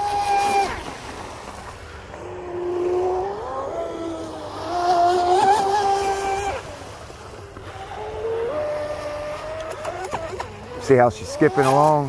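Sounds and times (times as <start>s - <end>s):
electric speedboat motor whine: 0.0s - 12.0s.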